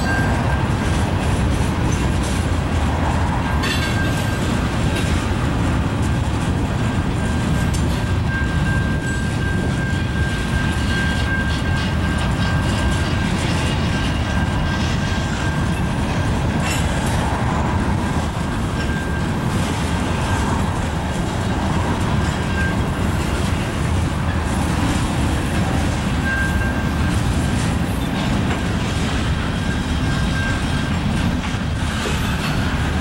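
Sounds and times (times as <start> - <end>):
clickety-clack over rail joints: 0.0 - 33.0
train wheels rumbling: 0.0 - 33.0.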